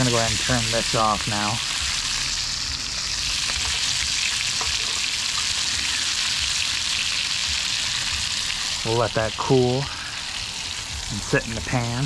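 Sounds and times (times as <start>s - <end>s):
fish sizzling in oil: 0.0s - 12.0s
oil popping and crackling: 0.0s - 12.0s.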